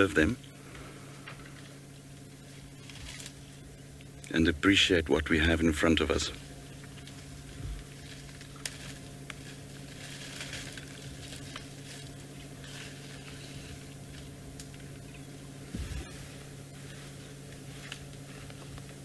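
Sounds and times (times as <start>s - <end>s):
steady low hum: 0.0s - 19.0s
twigs and leaves snapping and rustling: 0.0s - 19.0s.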